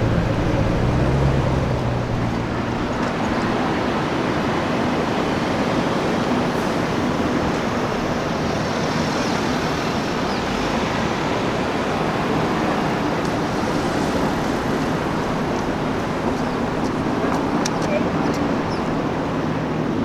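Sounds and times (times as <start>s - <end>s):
road traffic rush: 0.0s - 20.0s.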